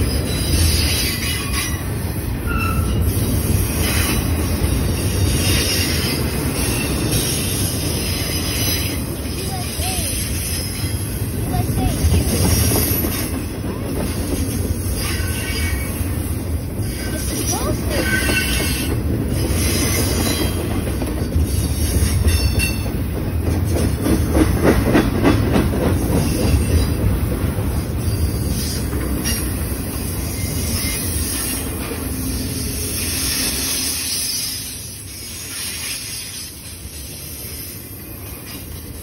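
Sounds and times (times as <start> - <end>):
train wheels rumbling: 0.0 - 39.0
wheels clacking over rail joints: 0.0 - 39.0.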